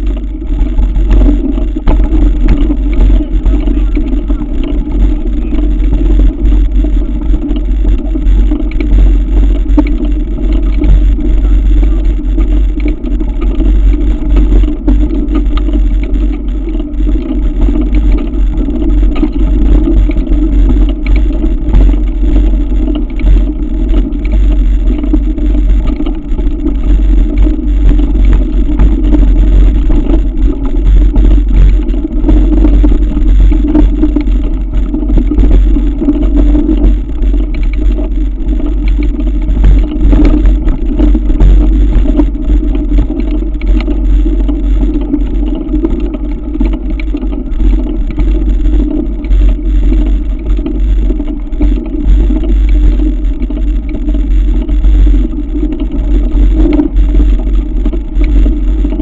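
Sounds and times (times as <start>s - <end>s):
heavy rumble: 0.0s - 59.0s.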